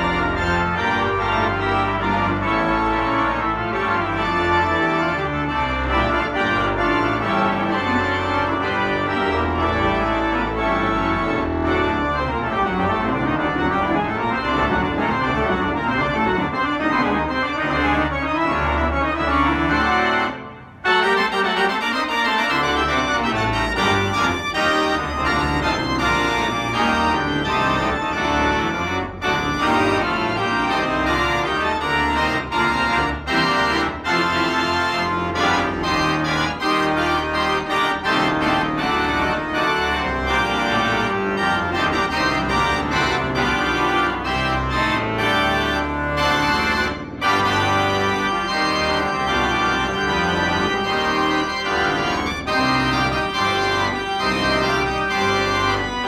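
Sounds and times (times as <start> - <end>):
pipe organ playing chords: 0.0 - 56.0.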